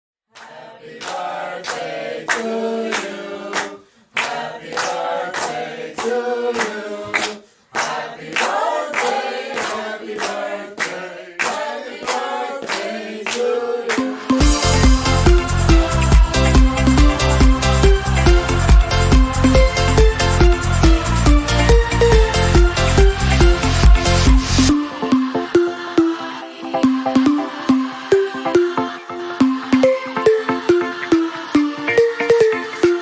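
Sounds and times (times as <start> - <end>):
choir-like singing: 0.3 - 33.0.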